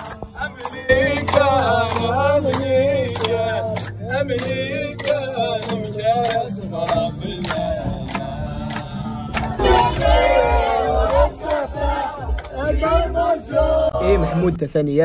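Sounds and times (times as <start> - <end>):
strummed acoustic guitar: 0.0 - 13.8
hands clapping to a beat: 0.0 - 14.0
young men singing: 0.0 - 14.4.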